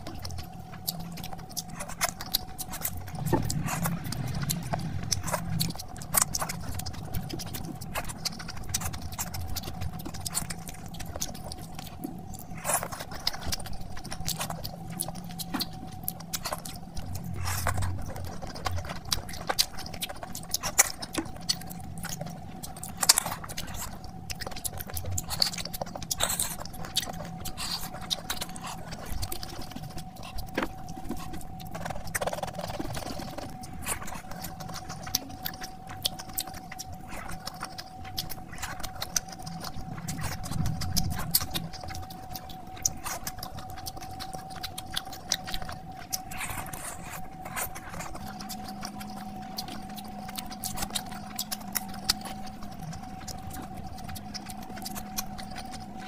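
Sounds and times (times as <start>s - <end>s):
faint steady hum: 0.0s - 56.0s
wet chewing: 0.0s - 56.0s.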